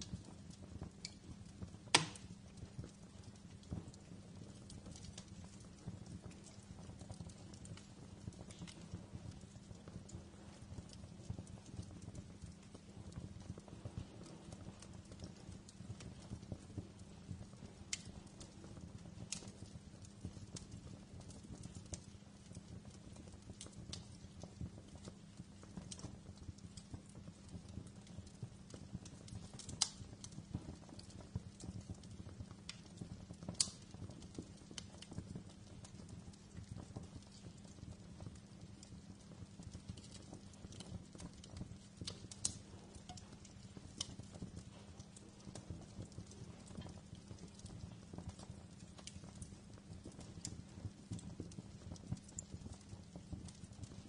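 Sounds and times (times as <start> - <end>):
loud fire pops: 0.0 - 54.0
wood fire crackling: 0.0 - 54.0.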